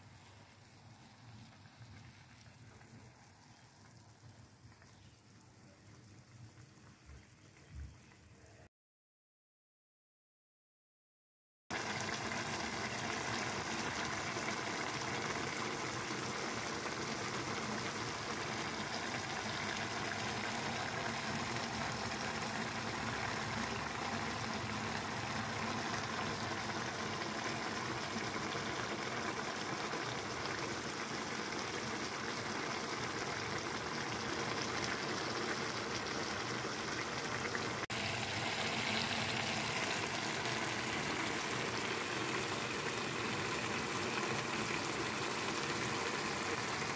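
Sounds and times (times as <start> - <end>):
broth bubbling in a wok: 0.0 - 8.7, 11.7 - 46.9.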